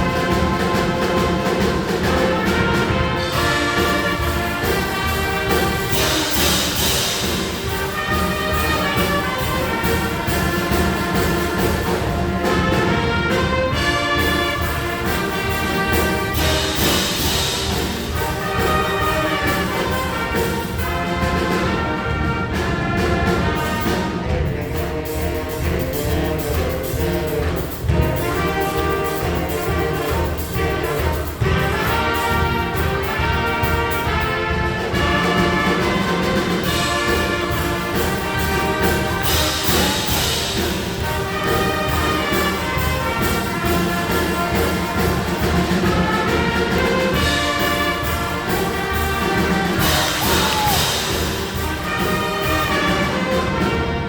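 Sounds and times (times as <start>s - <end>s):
band with loud brass: 0.0s - 54.0s
steady drum beat: 0.0s - 54.0s.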